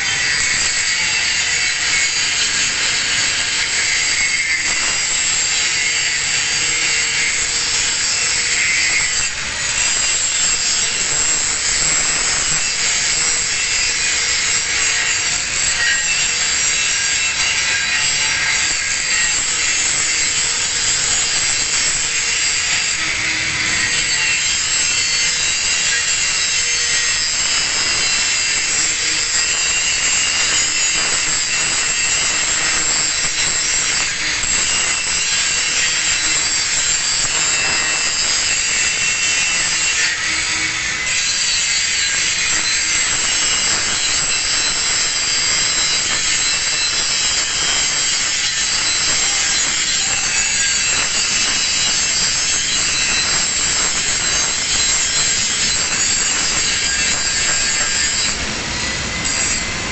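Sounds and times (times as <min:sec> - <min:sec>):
angle grinder grinding steel: 0:00.0 - 0:59.9.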